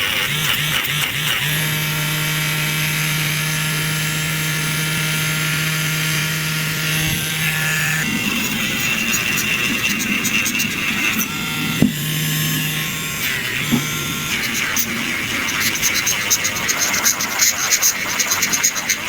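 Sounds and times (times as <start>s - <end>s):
mini drill whirring: 0.0s - 19.0s.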